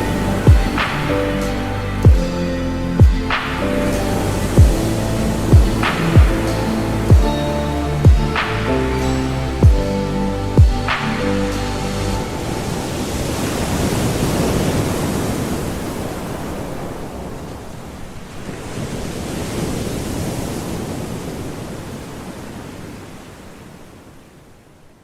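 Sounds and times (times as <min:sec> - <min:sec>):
sea surf rushing: 0:00.0 - 0:24.6.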